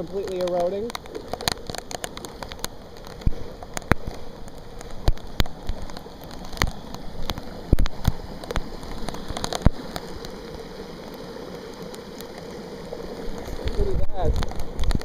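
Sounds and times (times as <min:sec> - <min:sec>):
heavy rain falling: 0:00.0 - 0:15.0
sharp taps of raindrops: 0:00.0 - 0:15.0.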